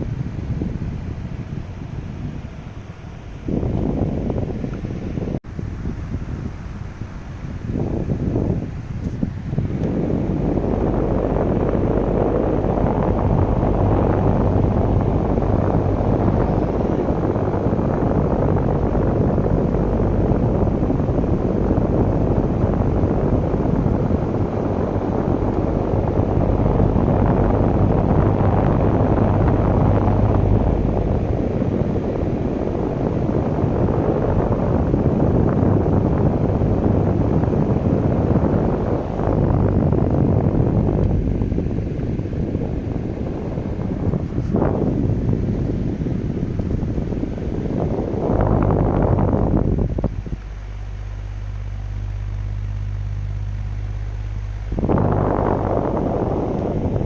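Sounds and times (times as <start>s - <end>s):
strong wind buffeting microphone: 0.0s - 57.0s.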